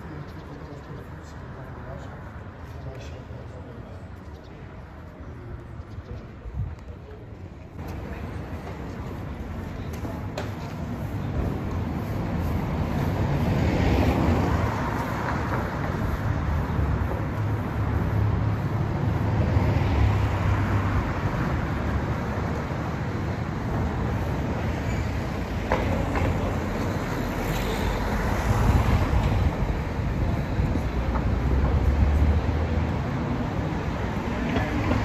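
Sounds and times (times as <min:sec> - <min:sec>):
vehicle rumble: 0:00.0 - 0:35.0.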